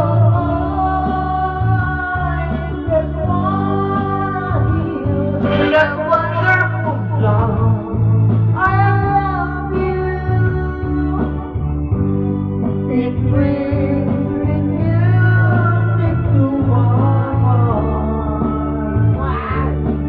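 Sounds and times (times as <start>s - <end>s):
man singing into microphone: 0.0s - 11.5s, 12.8s - 19.9s
karaoke backing music: 0.0s - 20.0s.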